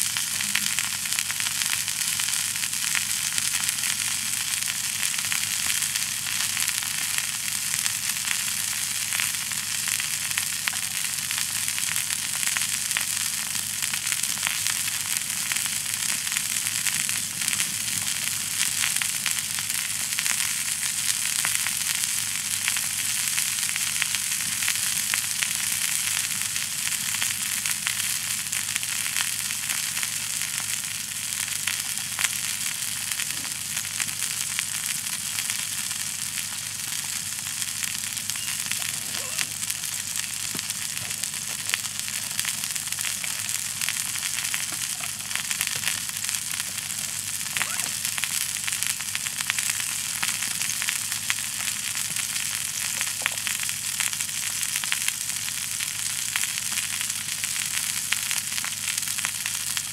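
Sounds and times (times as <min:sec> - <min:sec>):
fire crackling: 0:00.0 - 0:59.9
food sizzling in a skillet: 0:00.0 - 0:59.9.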